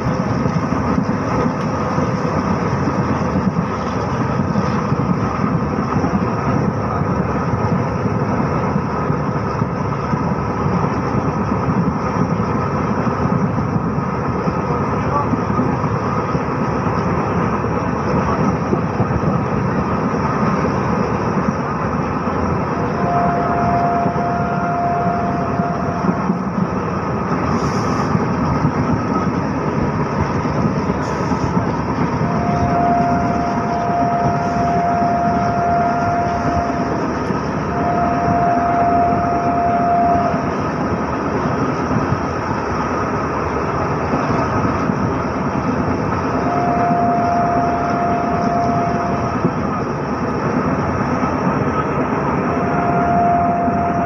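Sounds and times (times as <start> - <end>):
steady whining tone: 0.0 - 54.0
train wheels rumbling: 0.0 - 54.0.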